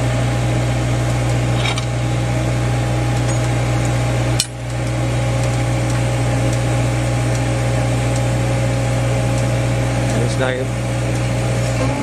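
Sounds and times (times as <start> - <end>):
drilling rig engine drone: 0.0 - 12.0.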